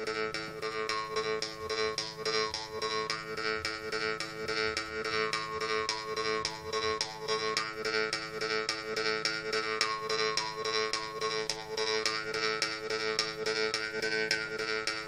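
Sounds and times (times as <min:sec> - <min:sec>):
jaw harp buzzing drone: 0:00.0 - 0:15.0.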